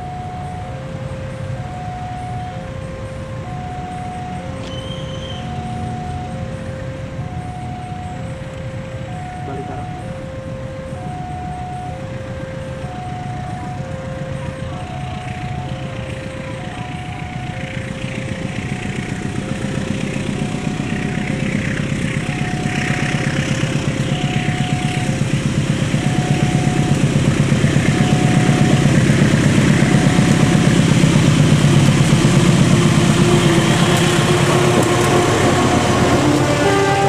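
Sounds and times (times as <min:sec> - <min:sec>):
diesel locomotive engine: 0:00.0 - 0:37.0
two-note electronic warning tone: 0:00.0 - 0:37.0.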